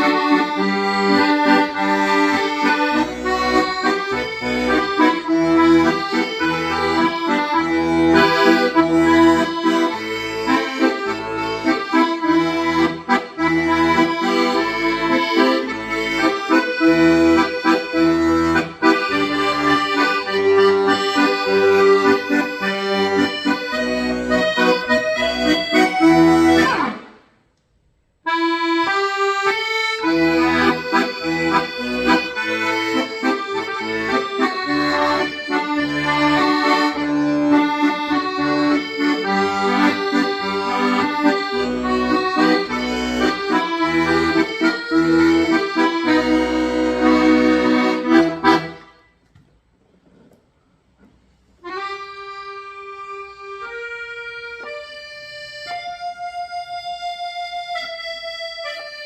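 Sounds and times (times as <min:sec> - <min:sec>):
accordion playing a tune: 0:00.0 - 0:27.4, 0:28.2 - 0:49.2, 0:51.4 - 0:59.0.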